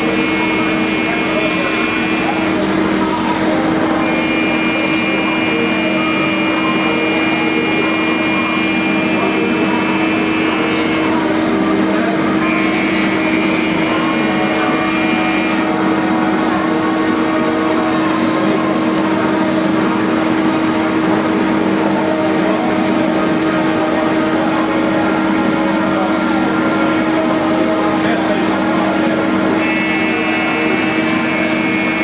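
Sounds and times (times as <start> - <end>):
high machine whine: 0.0 - 32.0
lathe machine hum: 0.0 - 32.0.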